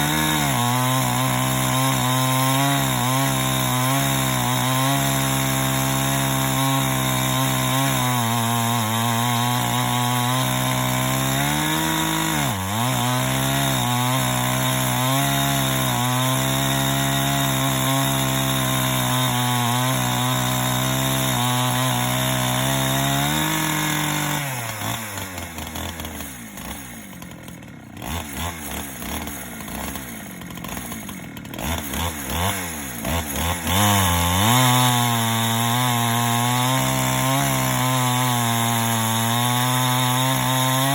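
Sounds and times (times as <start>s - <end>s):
chainsaw cutting through log: 0.0s - 40.9s
chainsaw engine idling with blips: 0.0s - 40.9s.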